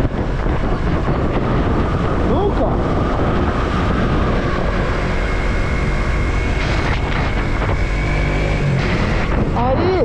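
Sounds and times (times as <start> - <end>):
motorcycle engine running: 0.0 - 10.0
road noise: 0.0 - 10.0
wind noise: 0.0 - 10.0.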